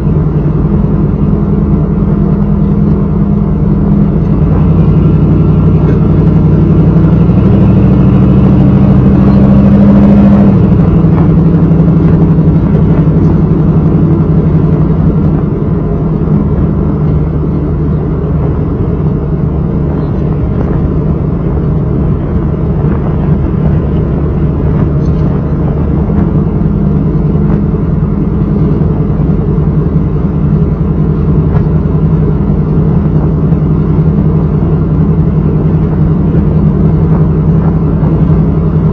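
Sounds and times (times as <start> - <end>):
deep engine exhaust note: 0.0 - 38.9.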